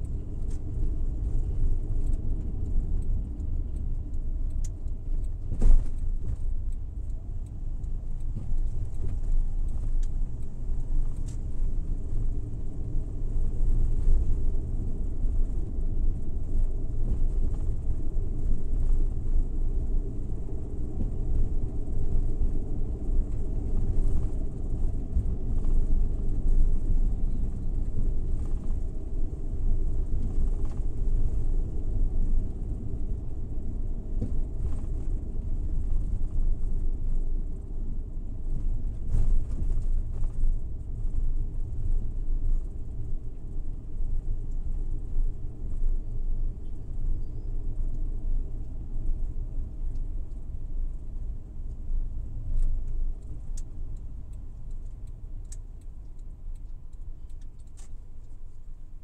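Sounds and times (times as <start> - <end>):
van engine and road noise: 0.0 - 59.0.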